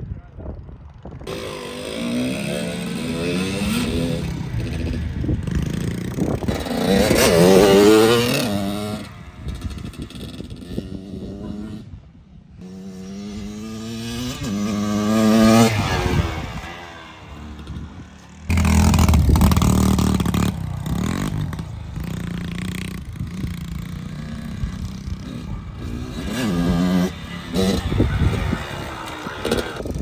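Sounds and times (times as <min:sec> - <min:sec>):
dirt bike engine revving: 0:01.3 - 0:12.0, 0:12.6 - 0:30.0.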